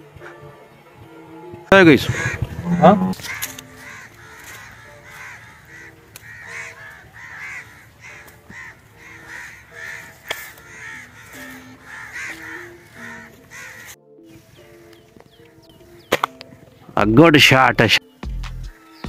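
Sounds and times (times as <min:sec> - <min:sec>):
faint melody tones: 0:00.0 - 0:19.0
birds calling rapidly: 0:01.6 - 0:19.0.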